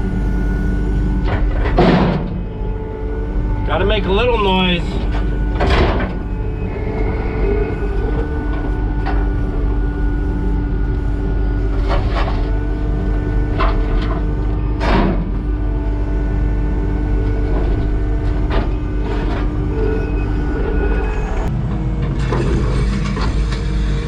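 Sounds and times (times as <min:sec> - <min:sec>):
diesel engine running: 0:00.0 - 0:24.0
machine knocks and scrapes: 0:00.6 - 0:24.0.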